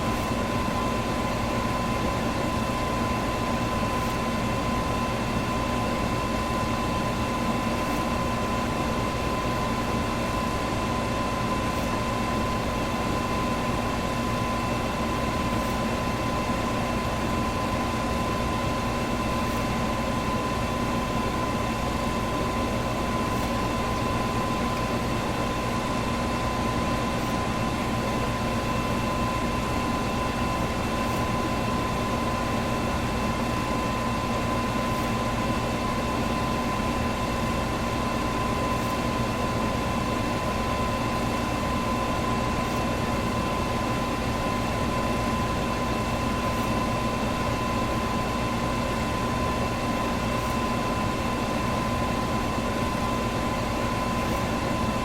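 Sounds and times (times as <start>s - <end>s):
electric fan running: 0.0s - 55.0s.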